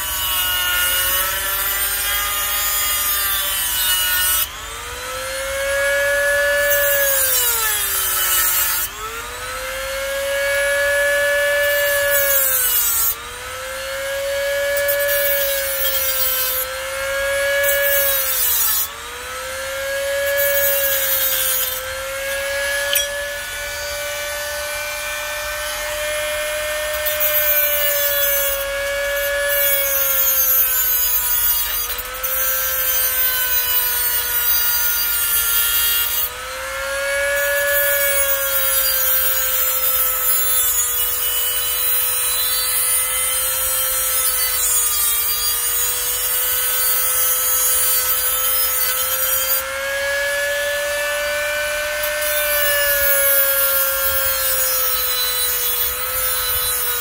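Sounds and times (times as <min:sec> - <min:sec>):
mini grinder cutting plastic: 0:00.0 - 0:57.0.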